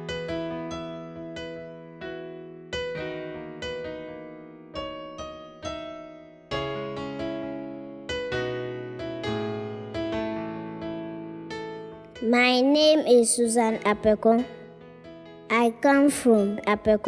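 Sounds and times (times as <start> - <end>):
electric piano melody: 0.0 - 17.0.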